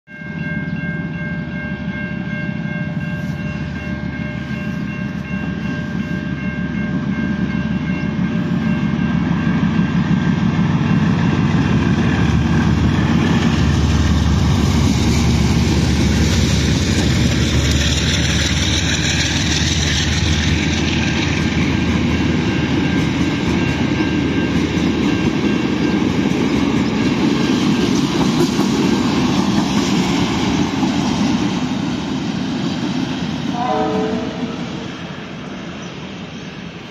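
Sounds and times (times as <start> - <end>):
diesel locomotive rumble: 0.3 - 36.9
train wagons rolling: 7.2 - 36.9.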